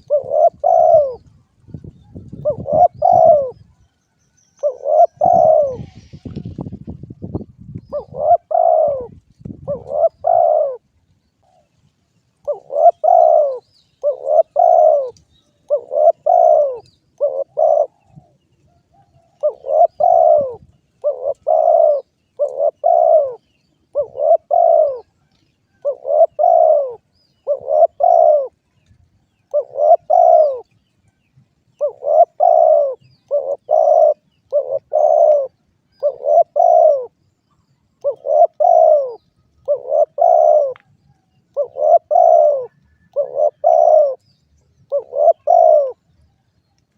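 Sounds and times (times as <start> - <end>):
dove cooing: 0.0 - 3.8, 4.6 - 6.8, 7.8 - 11.7, 12.4 - 28.6, 29.4 - 30.8, 31.7 - 46.2.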